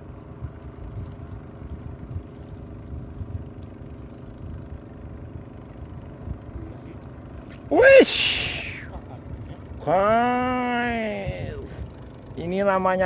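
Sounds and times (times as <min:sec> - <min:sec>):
boat engine droning: 0:00.1 - 0:13.0.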